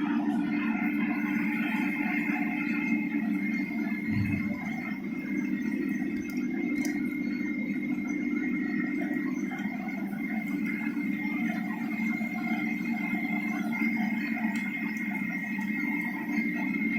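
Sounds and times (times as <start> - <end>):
high whine: 0.0 - 16.9
low machinery hum: 0.0 - 16.9.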